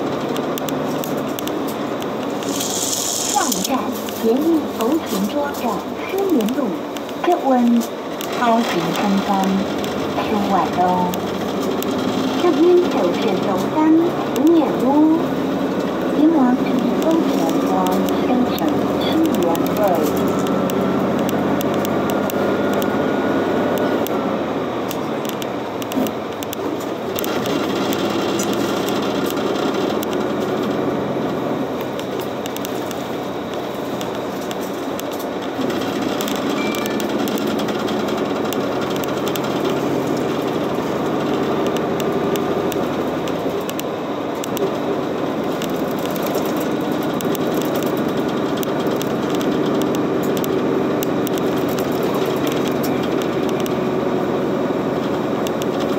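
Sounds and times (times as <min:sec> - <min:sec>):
bus engine drone: 0:00.0 - 0:55.9
tyre and road noise: 0:00.0 - 0:55.9.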